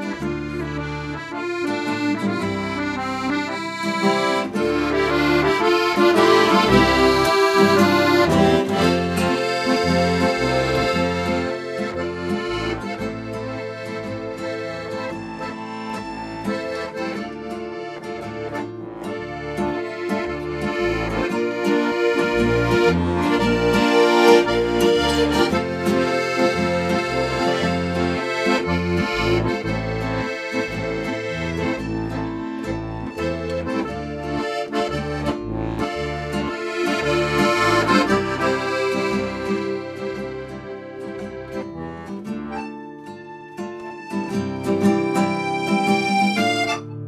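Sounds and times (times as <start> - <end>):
accordion music: 0.0 - 47.0
stepping bass line: 0.4 - 40.4.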